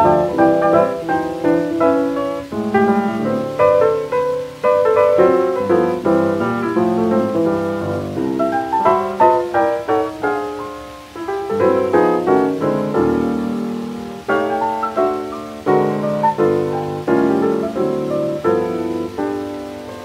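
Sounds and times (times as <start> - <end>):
solo jazz piano chords: 0.0 - 20.0.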